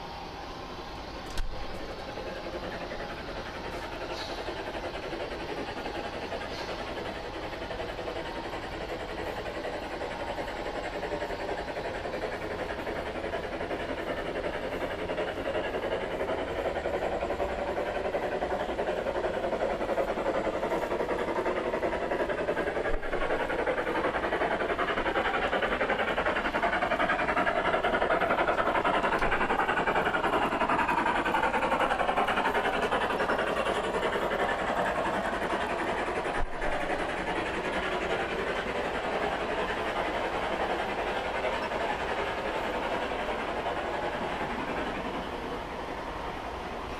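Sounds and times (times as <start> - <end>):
model train wheels on rail: 0.0 - 46.9.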